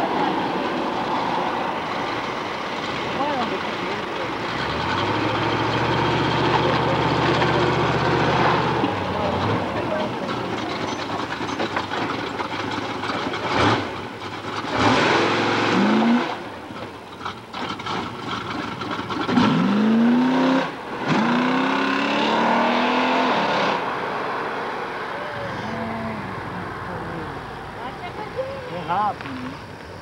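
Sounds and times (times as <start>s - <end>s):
car engine accelerating hard: 0.0s - 29.6s.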